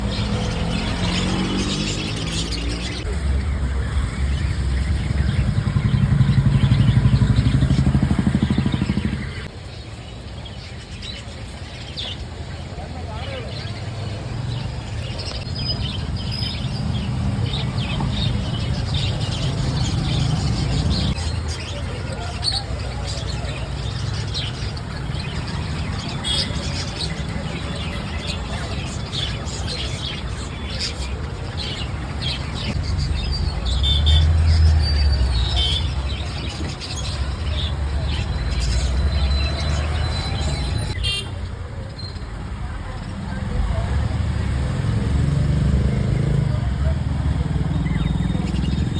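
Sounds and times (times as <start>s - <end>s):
traffic rumble: 0.0s - 48.9s.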